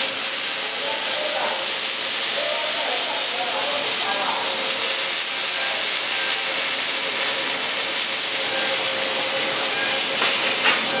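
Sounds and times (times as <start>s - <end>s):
arc welding hiss: 0.0s - 11.0s.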